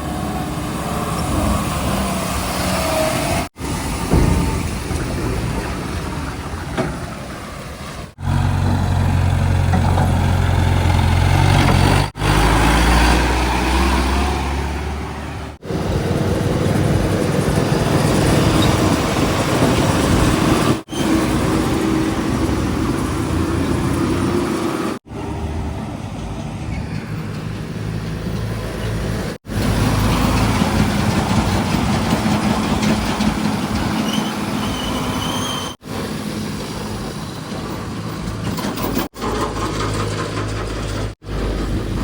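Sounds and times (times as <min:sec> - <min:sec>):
heavy diesel engines running: 0:00.0 - 0:42.0.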